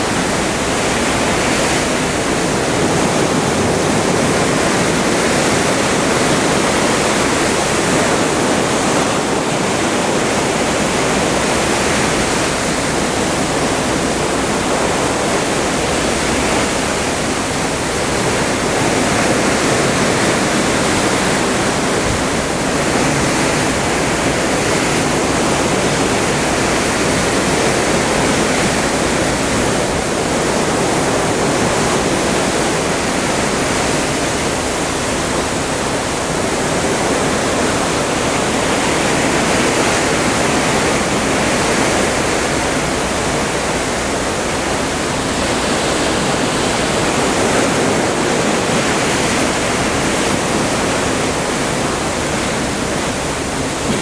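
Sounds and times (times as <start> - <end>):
sea water rushing past ship: 0.0 - 54.0.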